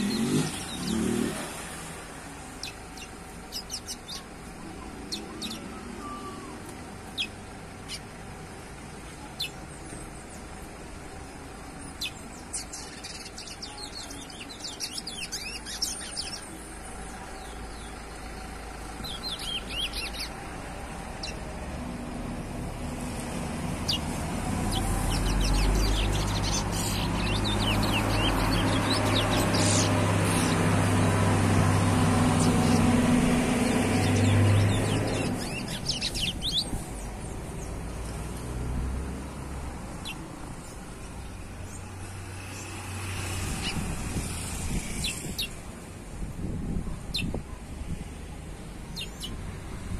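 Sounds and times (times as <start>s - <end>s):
truck engine rumbling past: 4.6s - 45.9s.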